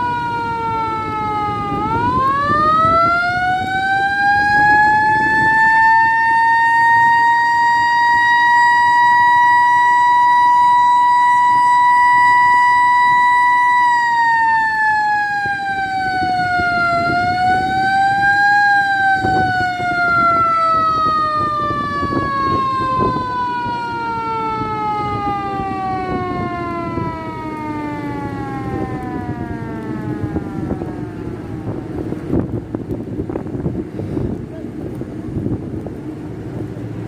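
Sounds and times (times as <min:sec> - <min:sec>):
siren winding down: 0:00.0 - 0:32.8.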